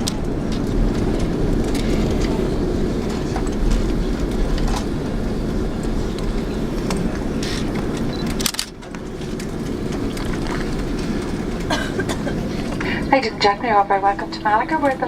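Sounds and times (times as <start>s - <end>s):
rumble of engines and wheels: 0.0s - 15.0s.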